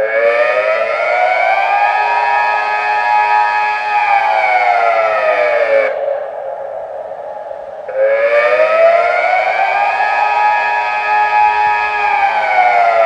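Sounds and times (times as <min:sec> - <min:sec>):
civil defence siren wailing: 0:00.0 - 0:13.0.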